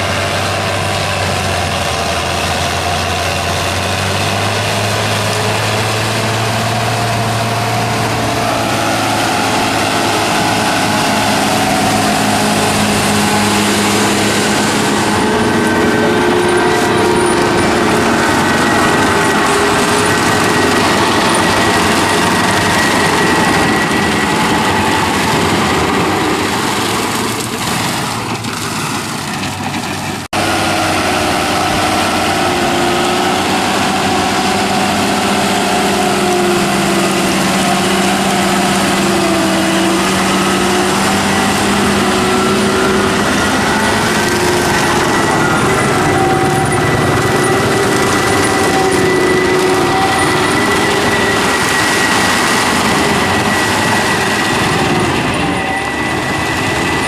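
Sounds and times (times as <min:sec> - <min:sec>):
tillage implement working soil: 0:00.0 - 0:57.0
tractor diesel engine under load: 0:00.0 - 0:57.0.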